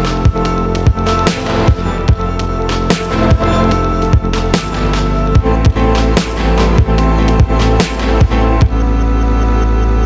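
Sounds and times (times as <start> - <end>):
electronic music with drum beat: 0.0 - 8.9.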